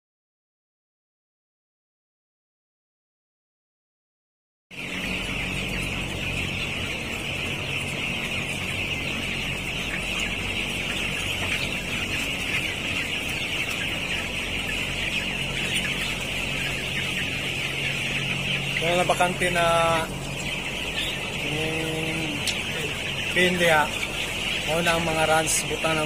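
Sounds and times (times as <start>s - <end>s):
chicks peeping: 4.7s - 26.0s
steady low hum: 4.8s - 26.0s.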